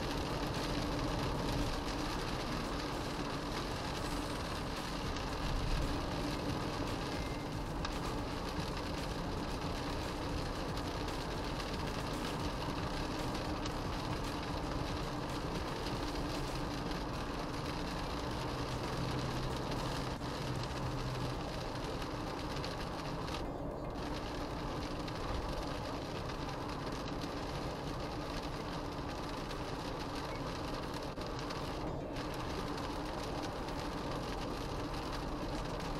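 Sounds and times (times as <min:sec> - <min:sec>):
car running drone: 0:00.0 - 0:35.9
tyres on wet road: 0:00.0 - 0:35.9.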